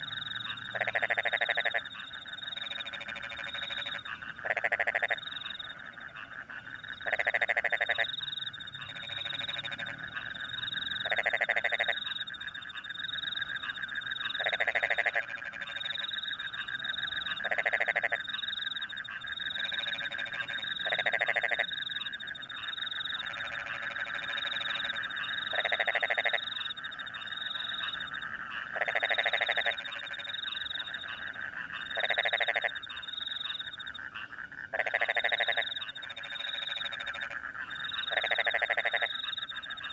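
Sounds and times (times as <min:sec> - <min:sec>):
frog pulsed croak: 0:00.0 - 0:39.9
frogs and crickets trilling: 0:00.0 - 0:39.9.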